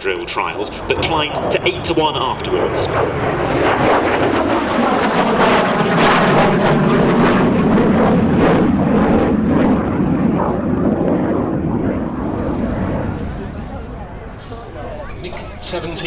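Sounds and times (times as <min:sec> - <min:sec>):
jet flying past: 0:00.0 - 0:16.0.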